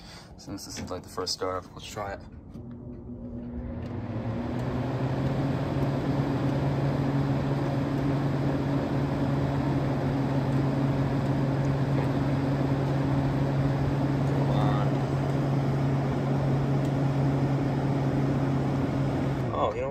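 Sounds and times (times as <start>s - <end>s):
air conditioner fan running: 0.0s - 19.9s.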